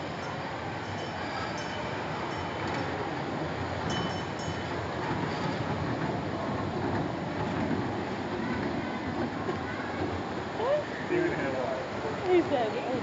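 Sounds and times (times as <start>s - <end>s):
kiddie train rolling rumble: 0.0s - 13.0s.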